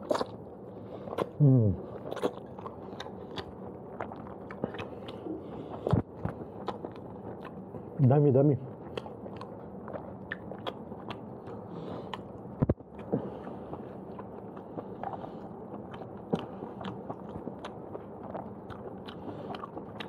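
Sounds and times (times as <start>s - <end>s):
person chewing noodles: 0.0s - 8.0s, 8.7s - 20.0s.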